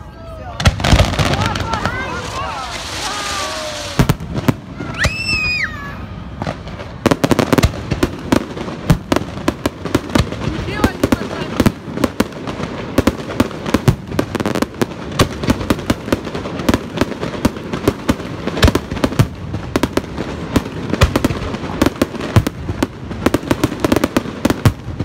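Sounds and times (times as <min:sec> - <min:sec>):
fireworks bursting: 0:00.4 - 0:25.0.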